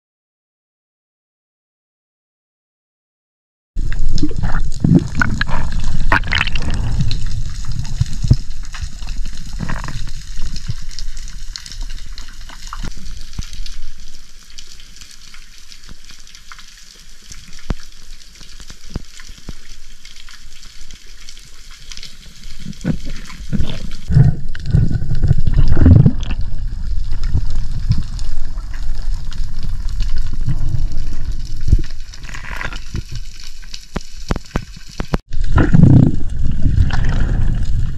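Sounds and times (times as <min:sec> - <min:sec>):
sharp crackling clicks: 0:03.8 - 0:37.7
water sloshing and bubbling: 0:03.8 - 0:37.9.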